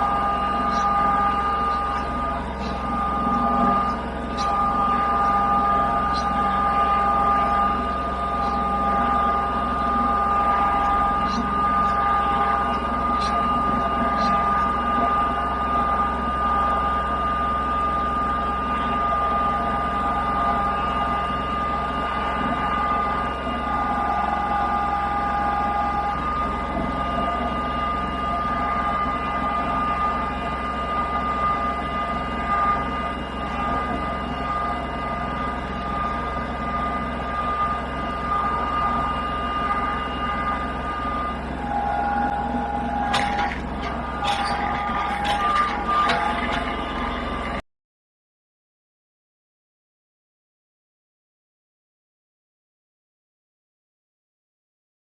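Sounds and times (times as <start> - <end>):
motor humming with a whine: 0.0 - 47.6.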